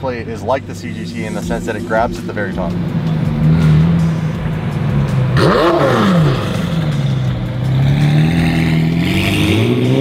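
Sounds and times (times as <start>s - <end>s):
car engine revving and accelerating: 0.4s - 10.0s.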